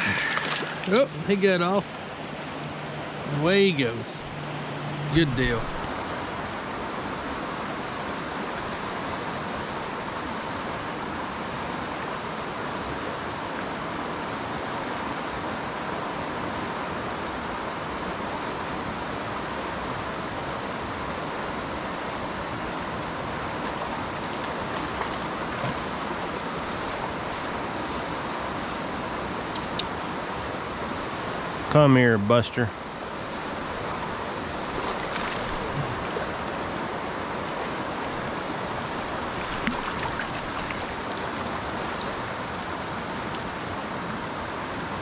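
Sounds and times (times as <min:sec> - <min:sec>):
fast water rushing: 0:00.0 - 0:45.0.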